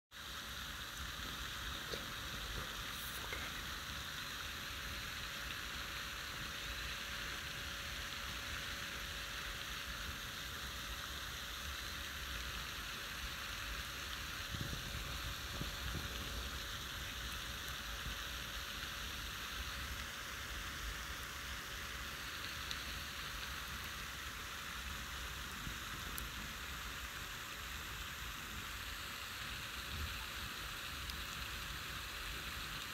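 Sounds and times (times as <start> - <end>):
rain falling on a pond: 0.1 - 32.9.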